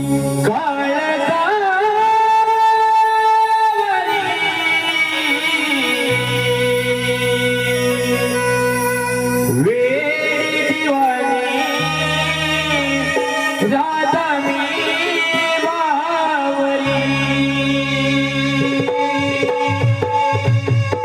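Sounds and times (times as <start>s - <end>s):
person singing: 0.0s - 21.0s
tabla: 0.0s - 21.0s.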